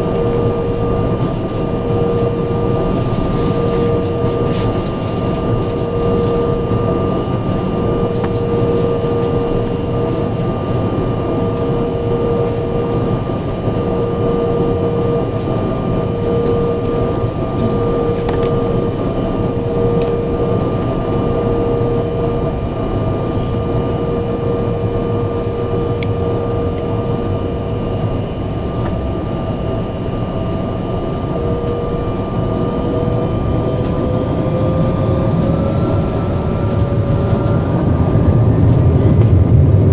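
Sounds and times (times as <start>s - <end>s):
jet engine whine: 0.0s - 39.9s
low cabin hum: 0.0s - 39.9s.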